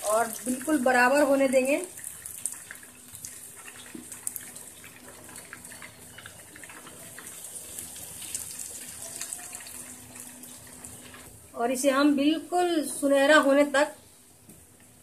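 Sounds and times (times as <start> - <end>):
ghee sizzling and bubbling: 0.0 - 15.0.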